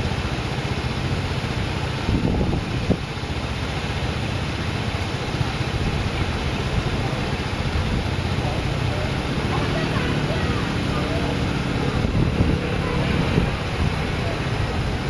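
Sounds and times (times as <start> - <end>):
wind buffeting microphone: 1.8 - 3.5, 4.5 - 15.0.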